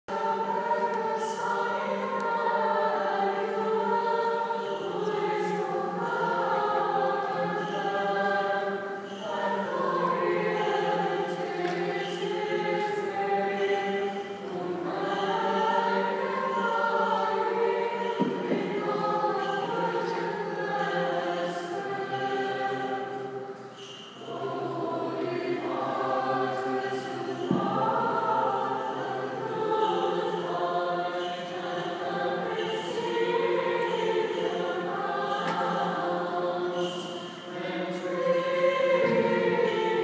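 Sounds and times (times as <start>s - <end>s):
church choir singing a hymn: 0.1s - 40.0s.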